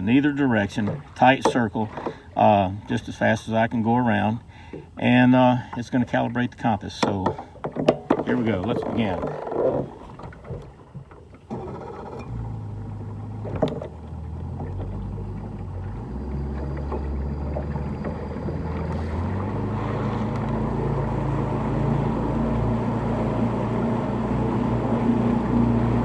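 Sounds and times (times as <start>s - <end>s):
outboard motor humming: 0.0s - 26.0s.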